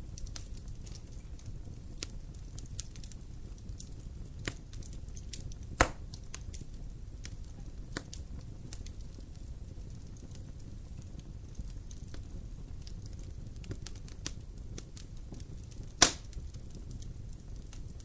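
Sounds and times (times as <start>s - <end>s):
low rumble of flames: 0.0s - 18.0s
sharp pops from fire: 0.0s - 18.0s
wood fire crackling: 0.0s - 18.0s.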